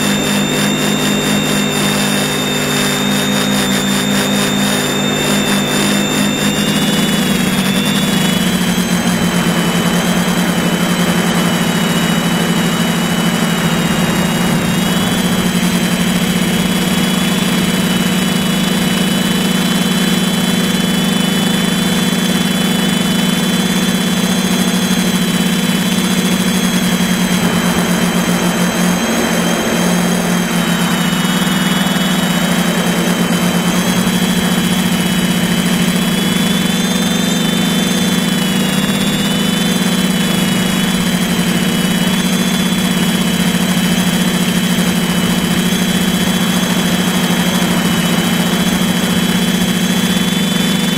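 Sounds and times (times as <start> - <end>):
drone motors humming with whine: 0.0 - 50.9.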